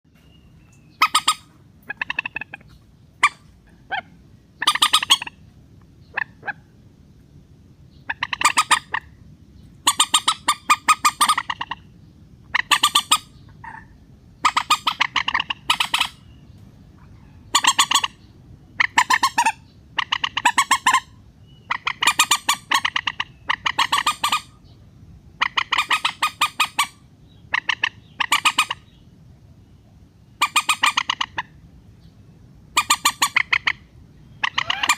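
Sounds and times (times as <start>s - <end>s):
rail bird calls: 0.1s - 34.9s.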